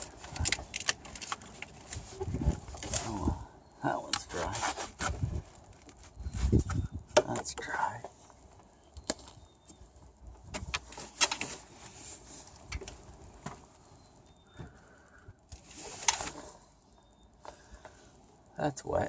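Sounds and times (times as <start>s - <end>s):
hands rustling on hoses: 0.0s - 6.8s, 9.7s - 18.5s.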